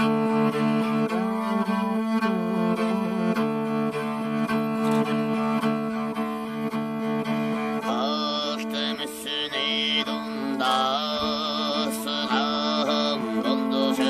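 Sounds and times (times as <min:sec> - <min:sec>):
bowed strings melody: 0:00.0 - 0:14.0
held drone: 0:00.0 - 0:14.0.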